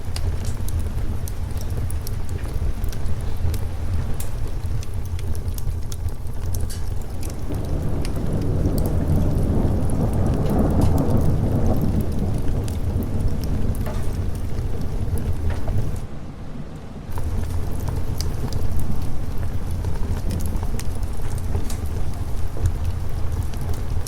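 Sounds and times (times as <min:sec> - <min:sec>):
wood fire crackling: 0:00.0 - 0:16.2, 0:16.8 - 0:24.0
steady rain: 0:00.0 - 0:24.0
thunder rolling: 0:00.0 - 0:24.0.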